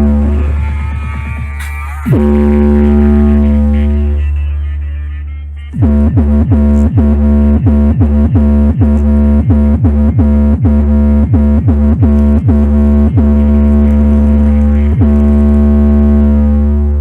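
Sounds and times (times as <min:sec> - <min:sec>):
bass music through car subwoofers: 0:00.0 - 0:17.0.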